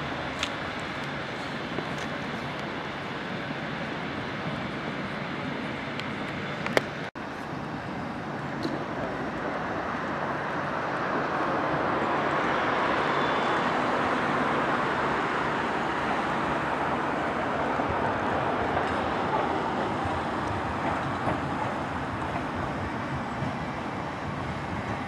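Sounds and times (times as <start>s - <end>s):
street traffic: 0.0s - 25.0s
tram rolling: 0.0s - 25.0s.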